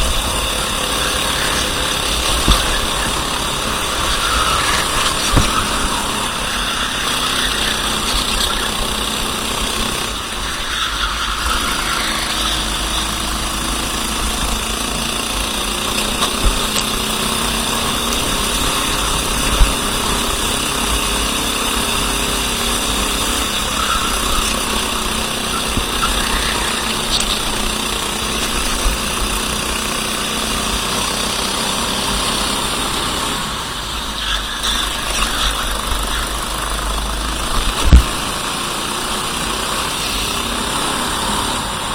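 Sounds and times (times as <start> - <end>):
racing kart engine: 0.0 - 41.9.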